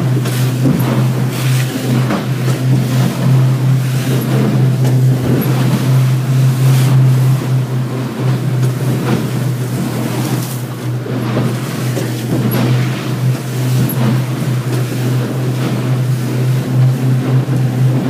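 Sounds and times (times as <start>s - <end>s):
motorboat engine droning: 0.0s - 18.0s
waves splashing against boat: 0.0s - 18.0s.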